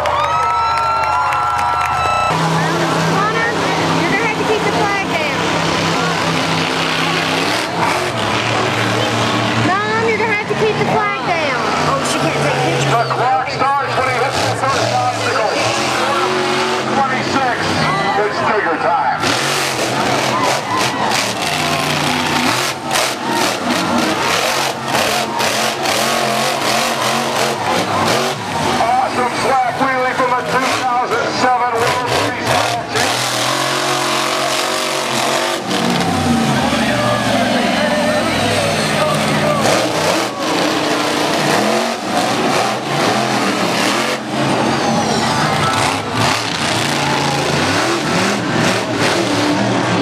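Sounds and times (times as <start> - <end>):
monster truck engine revving: 0.0 - 50.0.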